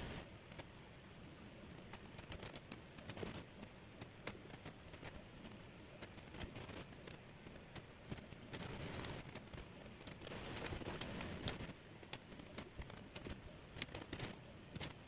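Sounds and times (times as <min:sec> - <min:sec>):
soft rustle: 0:00.0 - 0:15.0.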